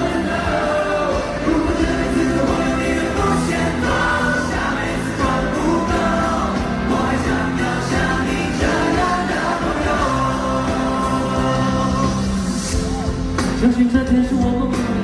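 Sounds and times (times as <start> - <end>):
live pop-rock band: 0.0 - 15.0.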